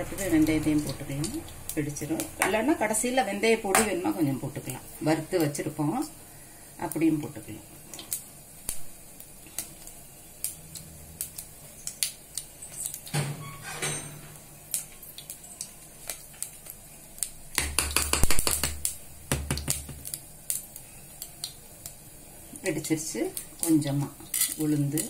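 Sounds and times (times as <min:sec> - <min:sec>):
mustard seeds popping in oil: 0:00.2 - 0:05.7, 0:06.8 - 0:13.2, 0:14.6 - 0:25.0.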